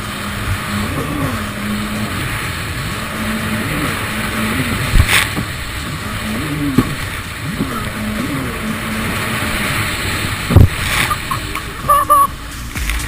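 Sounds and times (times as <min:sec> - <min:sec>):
jet ski engine running: 0:00.0 - 0:13.0
rushing water: 0:00.0 - 0:13.0
wind noise: 0:00.0 - 0:13.0.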